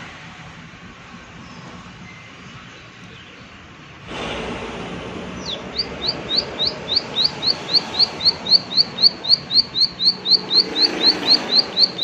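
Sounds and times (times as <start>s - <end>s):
outdoor hiss: 0.0s - 11.8s
bird singing rising notes: 1.4s - 12.0s.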